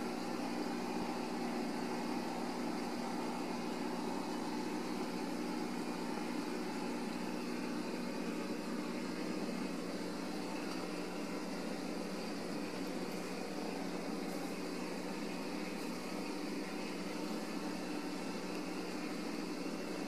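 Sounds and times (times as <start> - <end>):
mechanical hum with hiss: 0.0 - 20.0.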